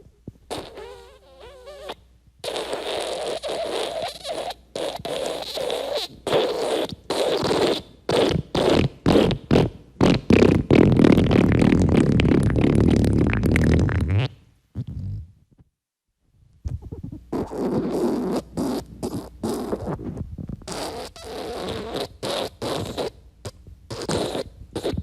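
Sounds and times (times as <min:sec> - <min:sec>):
wet fart sound effect: 0:00.5 - 0:15.3, 0:16.7 - 0:20.1, 0:20.7 - 0:23.2, 0:23.9 - 0:25.0.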